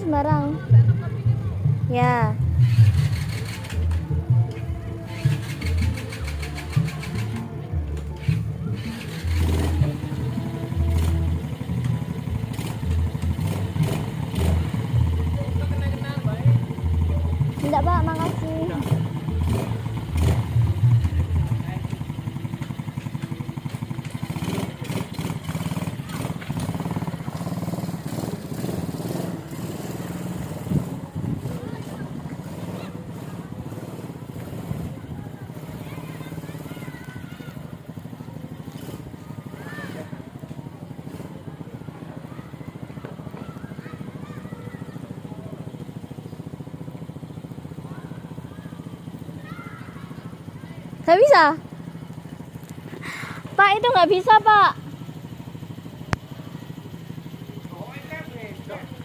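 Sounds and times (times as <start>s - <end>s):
small atv engine running: 0.0s - 59.0s.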